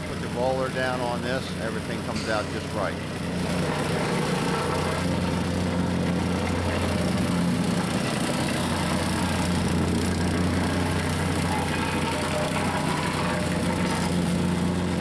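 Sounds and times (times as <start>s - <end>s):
plate compactor engine running: 0.0s - 15.0s.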